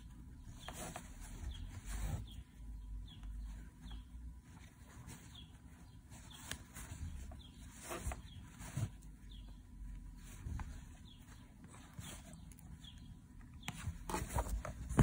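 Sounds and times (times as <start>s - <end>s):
bird chirping: 0.0s - 9.9s, 10.6s - 15.0s.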